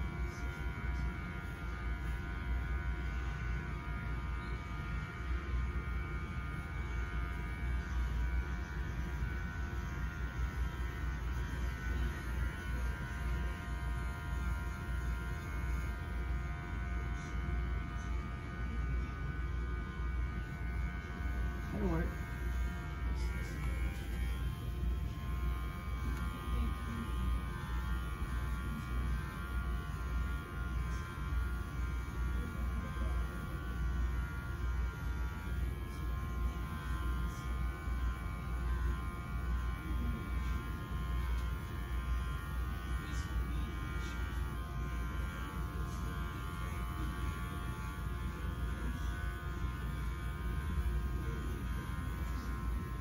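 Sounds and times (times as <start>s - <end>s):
electric clippers humming: 0.0s - 53.0s.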